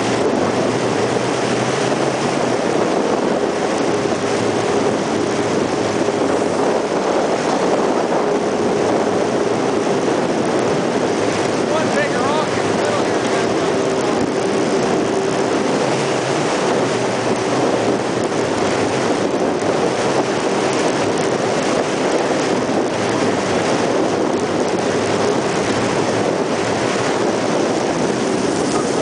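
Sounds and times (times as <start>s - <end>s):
jet boat engine running: 0.0s - 29.0s
rushing water: 0.0s - 29.0s.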